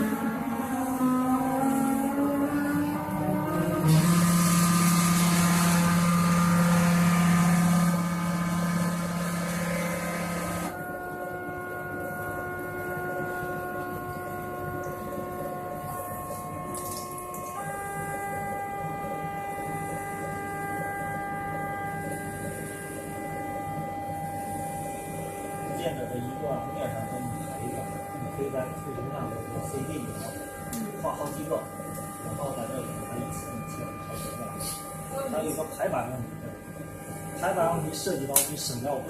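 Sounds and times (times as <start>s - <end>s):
louder hum and hiss: 0.0s - 39.0s.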